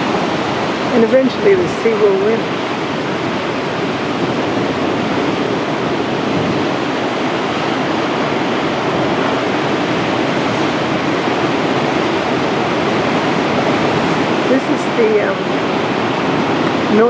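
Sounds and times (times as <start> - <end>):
surf breaking on shore: 0.0 - 17.0.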